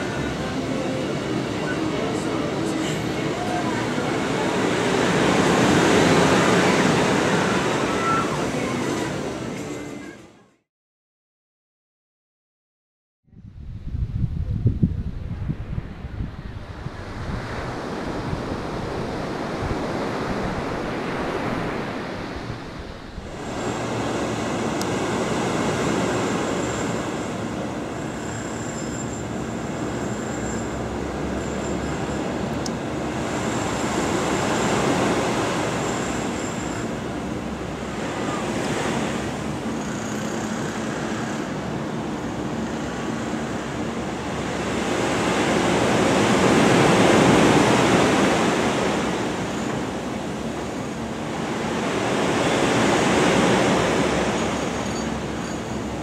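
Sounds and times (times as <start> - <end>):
ocean waves and surf: 0.0 - 10.4, 15.0 - 56.0.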